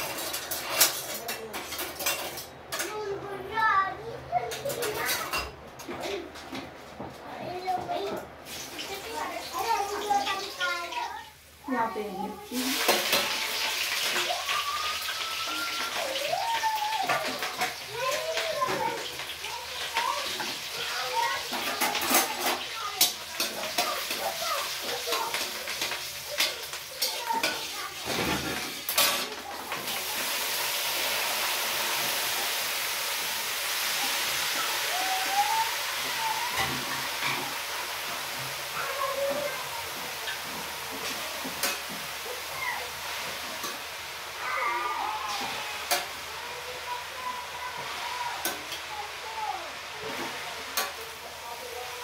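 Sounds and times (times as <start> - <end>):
greens sizzling in hot oil: 0.0 - 2.5, 7.9 - 52.0.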